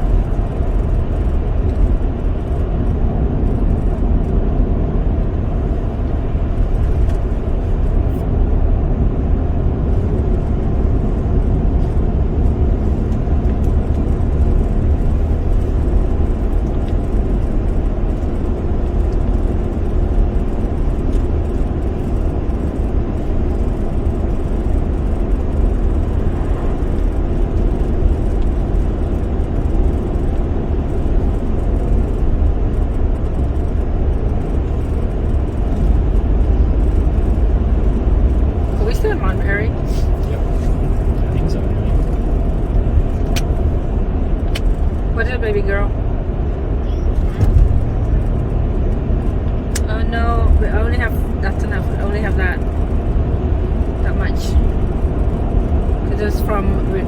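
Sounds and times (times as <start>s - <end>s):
car road noise: 0.0s - 57.0s.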